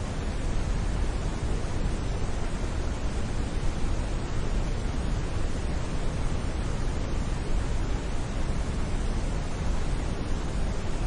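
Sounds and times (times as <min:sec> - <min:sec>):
brown noise hiss: 0:00.0 - 0:11.0.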